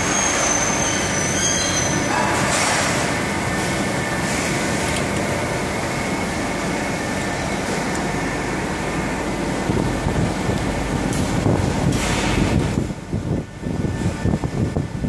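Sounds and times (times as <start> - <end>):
factory machinery drone: 0.0 - 15.0.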